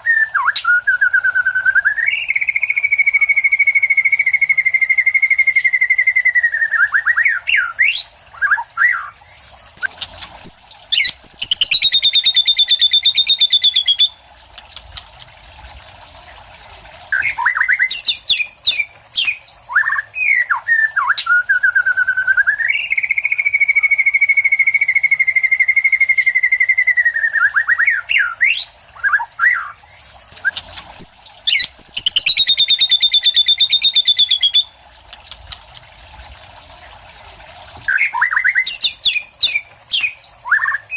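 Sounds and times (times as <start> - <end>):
bird whistling song: 0.0 - 9.2, 9.8 - 14.2, 17.1 - 34.8, 37.8 - 40.9.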